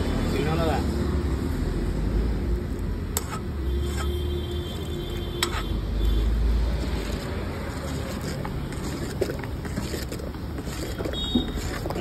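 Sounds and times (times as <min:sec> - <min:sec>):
roadside traffic rumble: 0:00.0 - 0:12.0
wind: 0:00.0 - 0:12.0.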